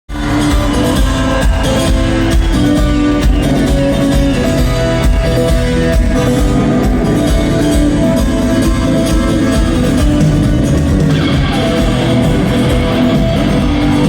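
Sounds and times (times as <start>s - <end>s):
rock band playing live: 0.1s - 14.0s.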